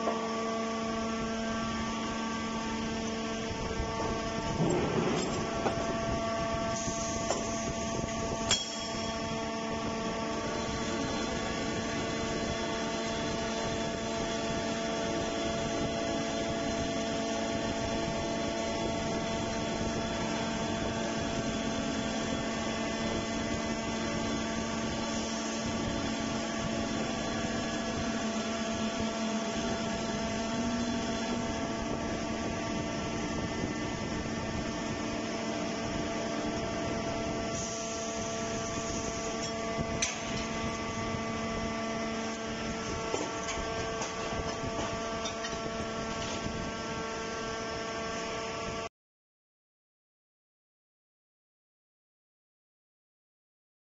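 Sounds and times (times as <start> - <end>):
hydraulic forging machine humming: 0.0 - 48.8.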